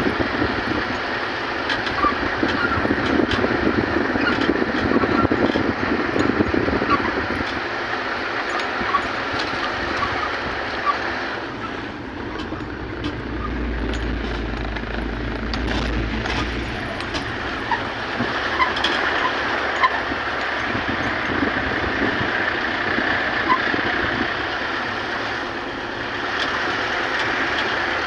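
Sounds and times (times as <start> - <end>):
moving vehicle rumble and hiss: 0.0 - 28.0
small clicks and rattles: 0.0 - 28.0.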